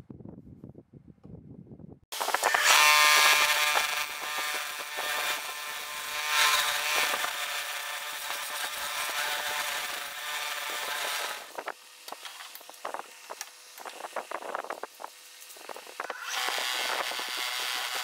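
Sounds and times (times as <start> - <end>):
lathe tool scraping wood: 2.1 - 18.0.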